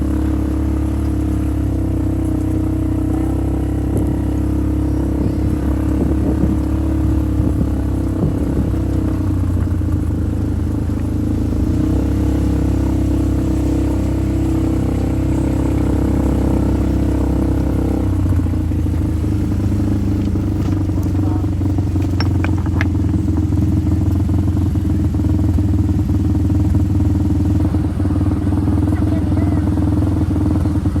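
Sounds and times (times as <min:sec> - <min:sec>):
off-road vehicle engine: 0:00.0 - 0:31.0.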